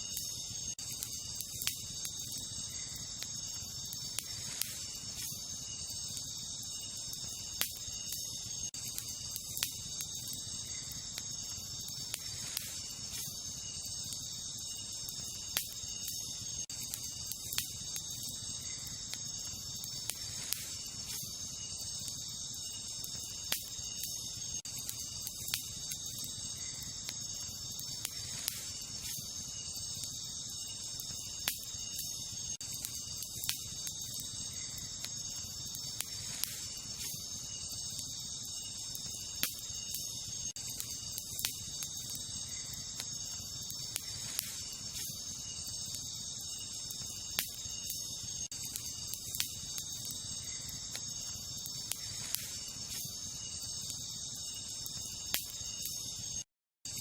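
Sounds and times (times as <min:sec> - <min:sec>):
campfire crackling and popping: 0:00.0 - 0:57.0
crickets and night insects chirping: 0:00.0 - 0:57.0.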